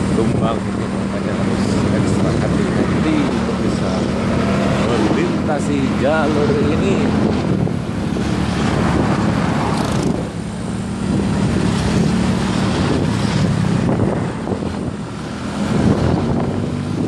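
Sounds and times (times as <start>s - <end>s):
motorcycle engine hum: 0.0s - 17.0s
wind rushing over microphone: 0.0s - 17.0s.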